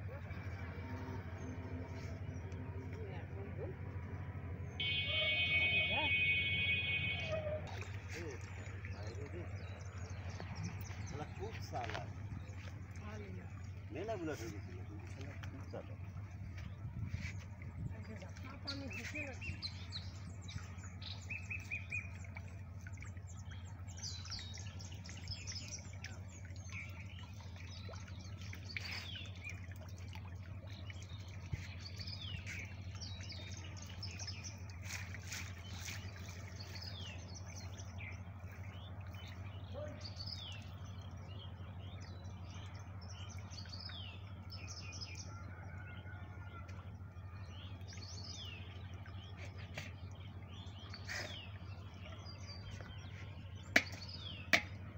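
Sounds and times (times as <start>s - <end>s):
small birds chirping: 4.6s - 45.8s, 46.5s - 54.9s.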